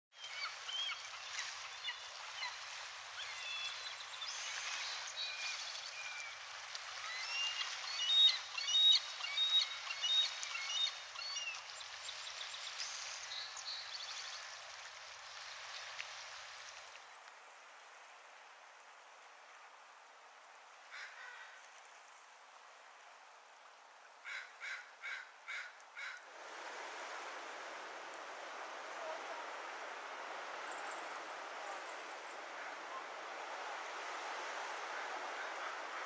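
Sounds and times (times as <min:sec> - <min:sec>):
steady outdoor hiss: 0:00.1 - 0:36.0.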